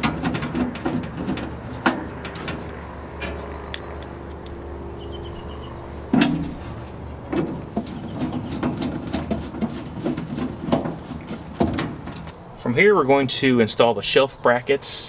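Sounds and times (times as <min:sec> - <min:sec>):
metal grill parts clicking: 0:00.0 - 0:12.4.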